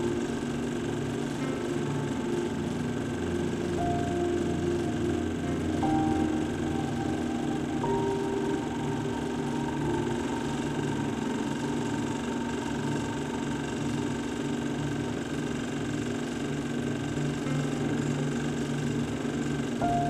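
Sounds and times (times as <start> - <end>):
machine humming with rattling flutter: 0.0 - 20.0
steady high tones: 0.0 - 20.0.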